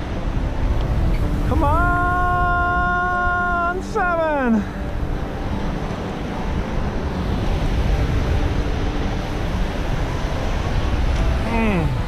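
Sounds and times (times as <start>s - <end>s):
choppy sea water: 0.0s - 12.0s
wind buffeting microphone: 0.0s - 12.0s.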